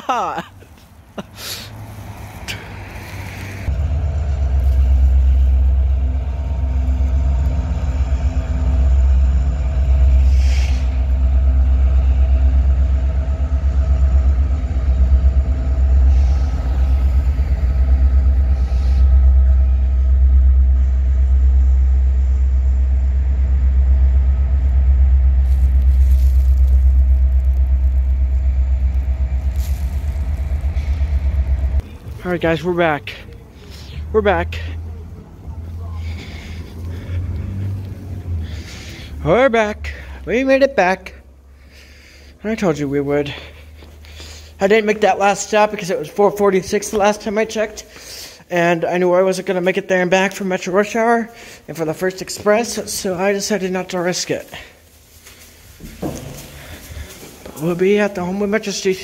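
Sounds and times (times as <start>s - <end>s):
freight train rumbling past: 0.7s - 59.0s.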